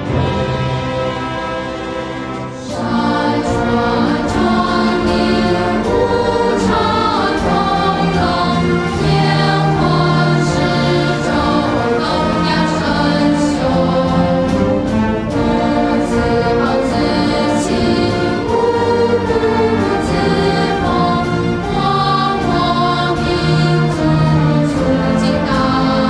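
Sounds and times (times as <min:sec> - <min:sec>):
instrumental accompaniment: 0:00.0 - 0:26.0
choir singing slow song: 0:02.5 - 0:26.0.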